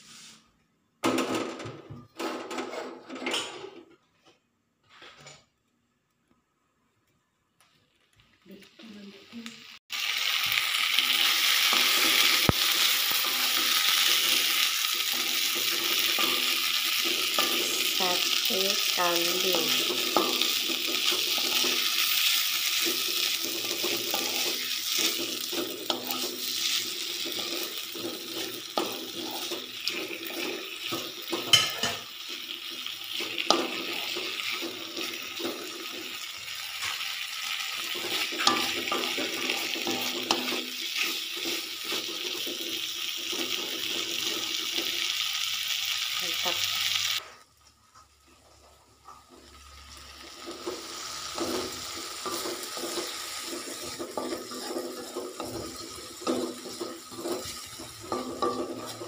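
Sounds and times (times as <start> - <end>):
meat sizzling in a wok: 8.2 - 47.4, 48.8 - 59.0.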